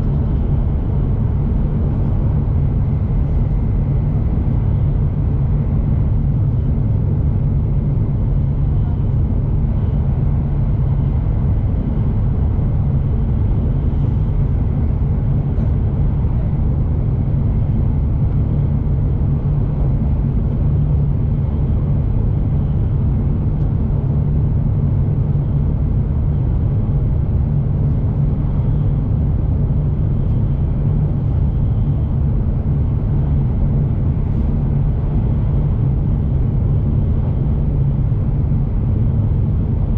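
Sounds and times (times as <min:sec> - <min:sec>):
train cabin low rumble: 0:00.0 - 0:39.9.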